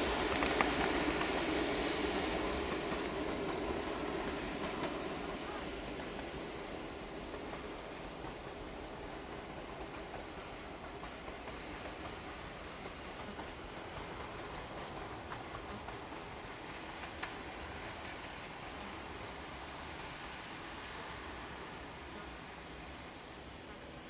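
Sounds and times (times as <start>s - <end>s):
passenger train rumbling on rails: 0.0s - 24.0s.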